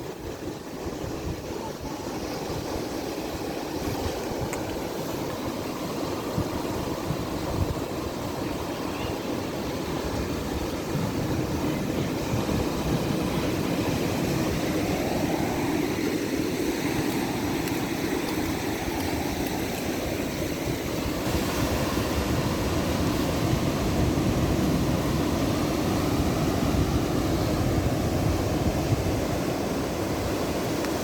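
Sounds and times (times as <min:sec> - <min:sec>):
ocean surf rushing: 0:00.0 - 0:31.0.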